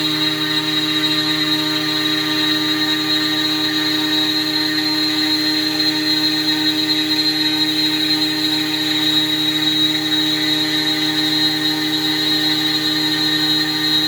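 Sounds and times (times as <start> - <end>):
cnc router spindle whine: 0.0 - 14.0.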